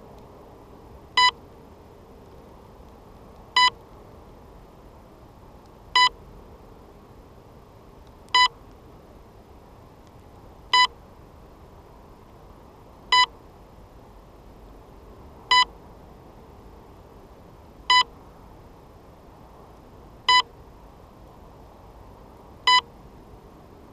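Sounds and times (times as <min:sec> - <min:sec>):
faint steady hiss: 0:00.0 - 0:23.9.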